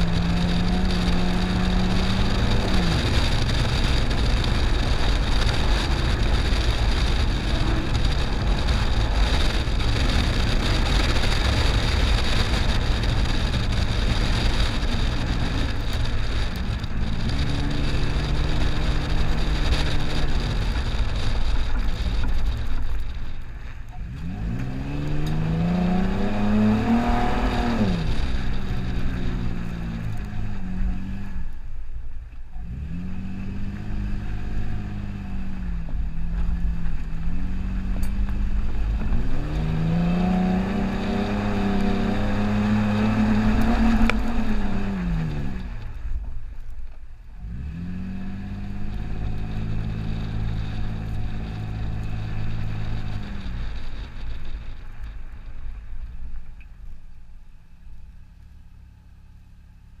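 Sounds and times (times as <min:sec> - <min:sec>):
car engine revving on sand: 0:00.0 - 0:23.2, 0:24.0 - 0:31.6, 0:32.6 - 0:46.2, 0:47.4 - 0:55.2.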